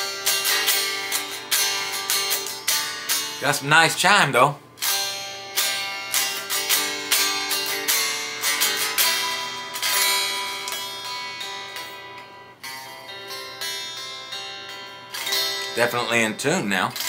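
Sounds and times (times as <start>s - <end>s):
unplugged electric guitar playing: 0.0s - 17.0s.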